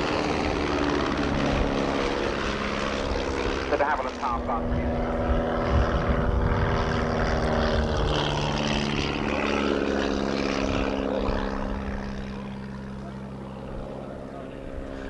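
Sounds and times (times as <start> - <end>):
propeller plane engine flying past: 0.0 - 15.0.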